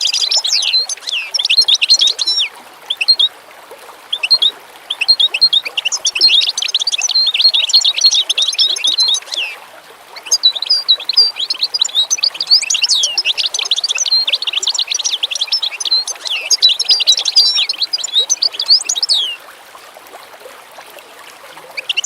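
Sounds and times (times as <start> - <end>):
songbirds singing and chirping: 0.0 - 3.3, 4.1 - 19.4, 21.7 - 22.0.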